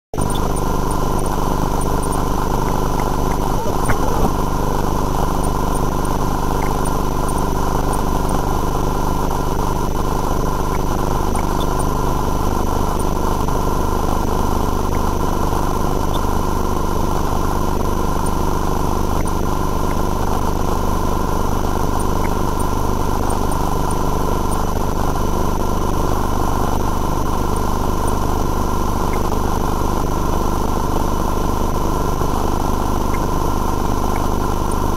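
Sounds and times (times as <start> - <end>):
machine drone: 0.2 - 34.9.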